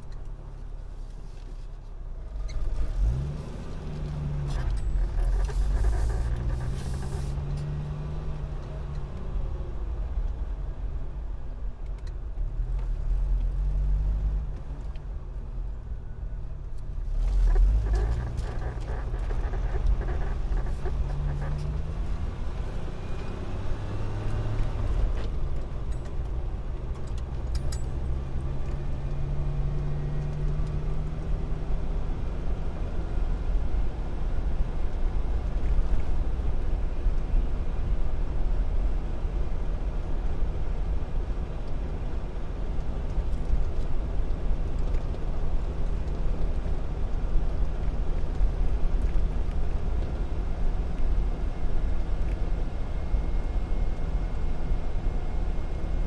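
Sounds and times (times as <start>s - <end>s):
car road rumble: 0.0s - 56.0s.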